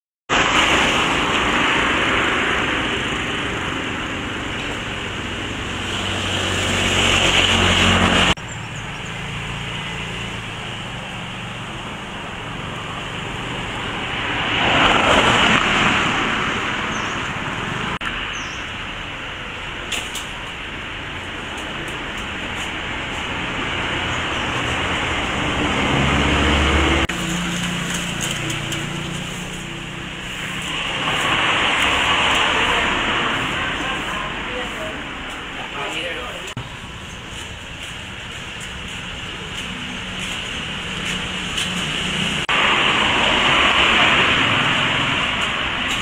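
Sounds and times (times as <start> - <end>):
vehicles passing: 0.3 - 46.0.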